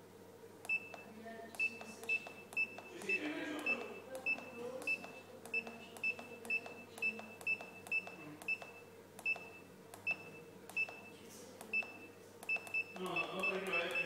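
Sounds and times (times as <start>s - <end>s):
keypad click and high beep: 0.7s - 14.0s.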